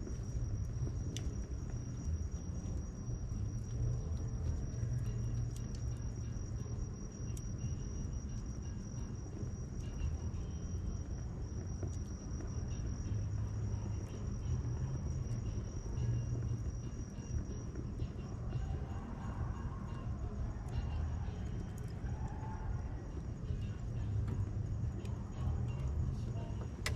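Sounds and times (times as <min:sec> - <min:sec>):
cricket trilling: 0:00.0 - 0:26.9
wood fire crackling: 0:00.0 - 0:26.9.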